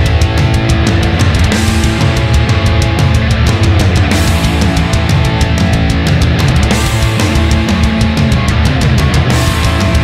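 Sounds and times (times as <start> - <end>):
heavy metal music: 0.0 - 10.0.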